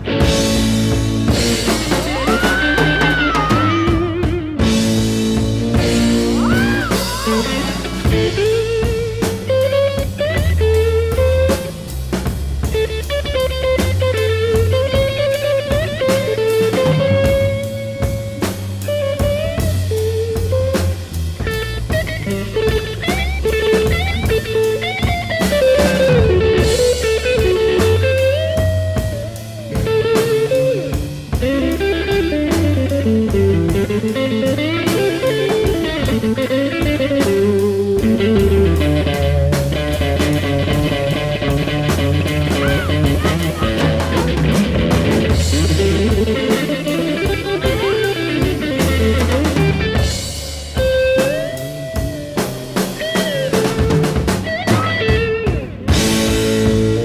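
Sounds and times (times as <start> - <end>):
bass: 0.0 - 57.0
drum kit: 0.0 - 57.0
electric guitar blues lead: 0.0 - 57.0.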